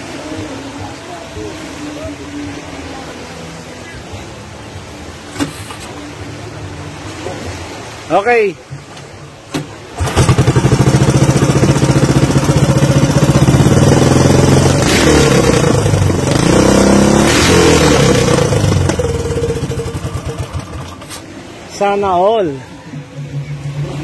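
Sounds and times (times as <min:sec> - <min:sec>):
racing boat engine: 0:00.0 - 0:24.0.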